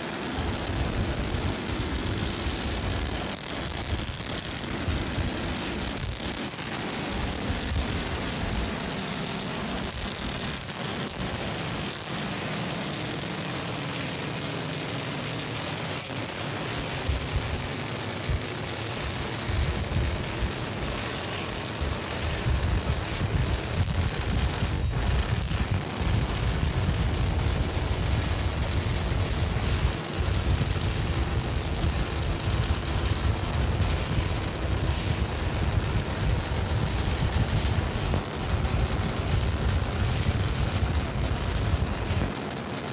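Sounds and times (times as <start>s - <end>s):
rocket engines rumbling: 0.0s - 42.9s.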